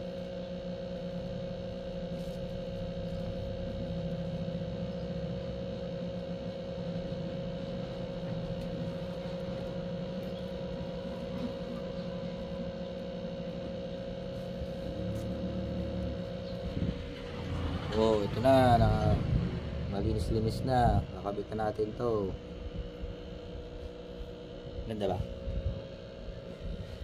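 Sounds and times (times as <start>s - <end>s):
steady tonal hum: 0.0s - 27.0s.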